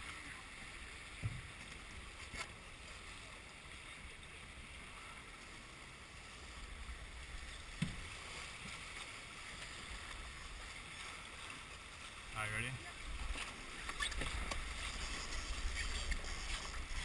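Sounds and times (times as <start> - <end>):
water rushing along a hull: 0.0 - 17.0.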